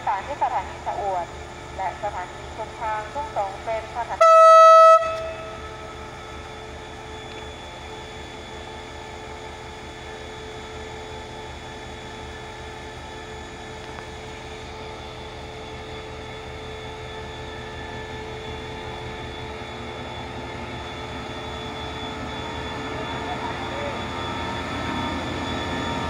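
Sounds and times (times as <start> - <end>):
diesel locomotive throbbing and whining: 0.0 - 26.0.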